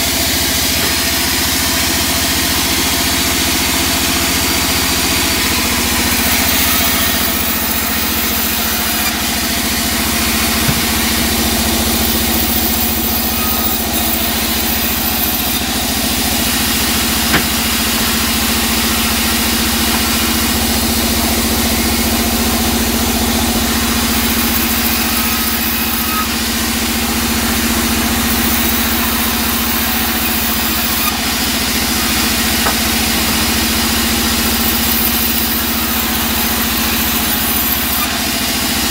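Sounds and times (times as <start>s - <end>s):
band saw humming: 0.0s - 38.9s
saw blade hissing through wood: 0.5s - 38.8s.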